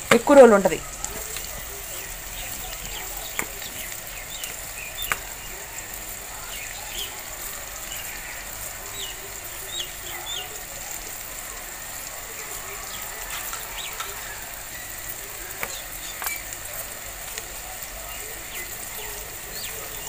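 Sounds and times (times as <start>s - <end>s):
small birds chirping: 0.0s - 20.0s
steady hiss: 0.0s - 20.0s.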